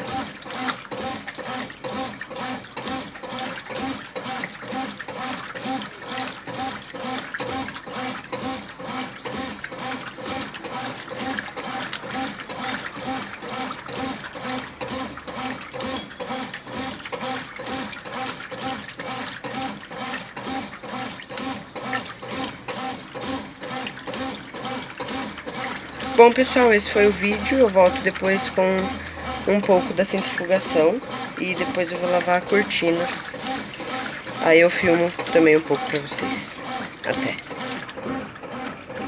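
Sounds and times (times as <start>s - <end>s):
washing machine water sloshing: 0.0s - 39.0s.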